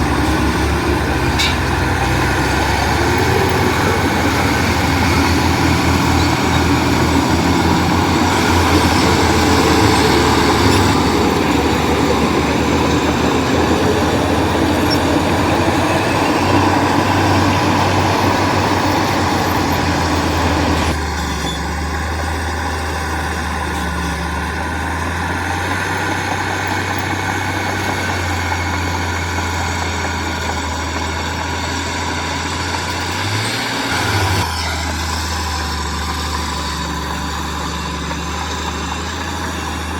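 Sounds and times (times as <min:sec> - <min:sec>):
heavy machinery engine droning: 0:00.0 - 0:39.9.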